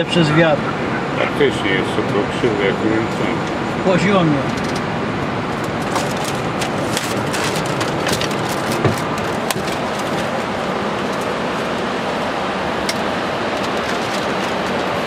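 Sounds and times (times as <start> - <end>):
steady rushing cockpit noise: 0.0 - 15.0.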